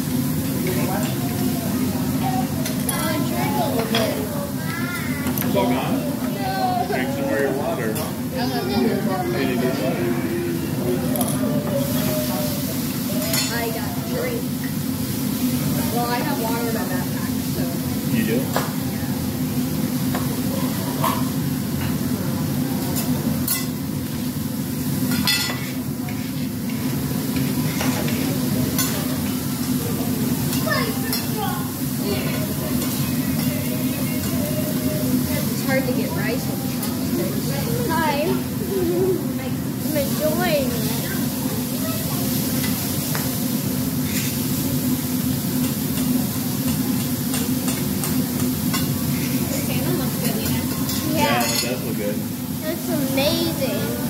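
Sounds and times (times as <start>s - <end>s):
food sizzling on a griddle: 0.0s - 54.0s.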